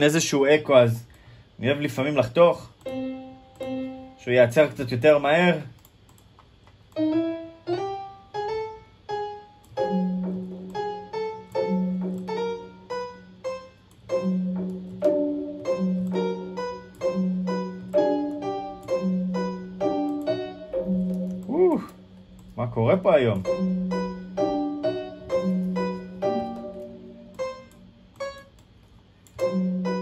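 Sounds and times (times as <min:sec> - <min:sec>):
looped piano melody: 0:02.8 - 0:05.5, 0:06.9 - 0:30.0.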